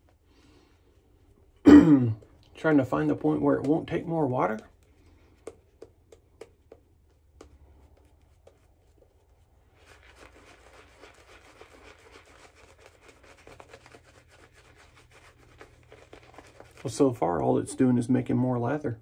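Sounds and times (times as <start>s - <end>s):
shaving brush squishing lather: 0.0s - 1.6s, 2.2s - 18.6s.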